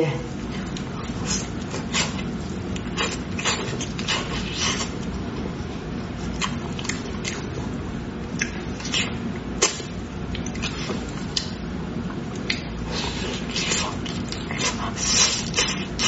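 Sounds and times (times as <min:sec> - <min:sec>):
chewing and mouth smacks: 0:00.5 - 0:05.1, 0:06.3 - 0:07.7, 0:08.3 - 0:16.0.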